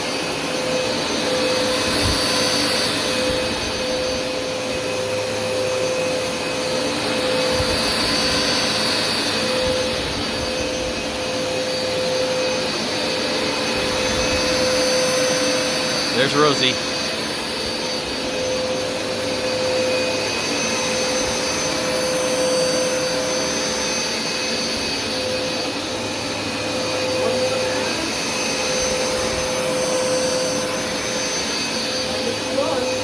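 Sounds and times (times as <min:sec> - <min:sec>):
carpet washer humming: 0:00.0 - 0:33.0.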